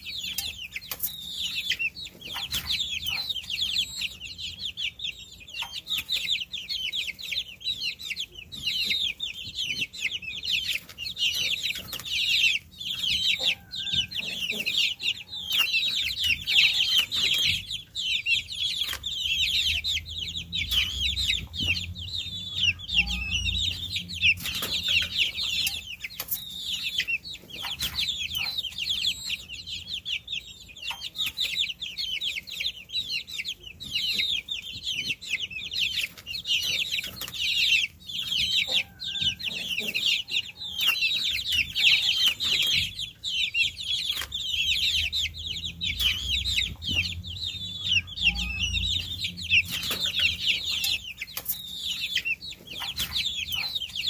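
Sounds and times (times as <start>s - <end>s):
baby chicks peeping: 0.0s - 54.0s.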